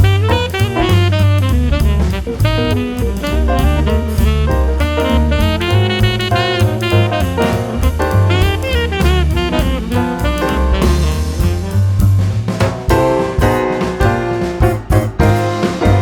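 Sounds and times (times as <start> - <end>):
saxophone melody: 0.0 - 12.3, 12.9 - 16.0
bass: 0.0 - 16.0
drum kit: 0.0 - 16.0.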